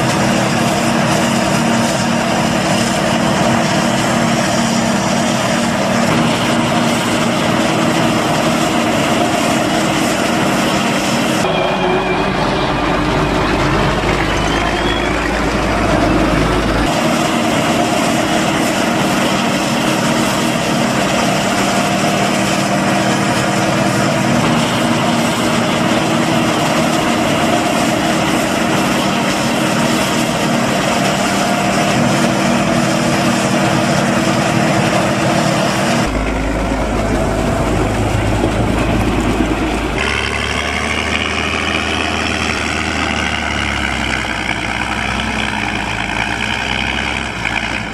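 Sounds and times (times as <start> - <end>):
diesel engines running: 0.0 - 47.9
tractor engine rising whine: 0.0 - 47.9.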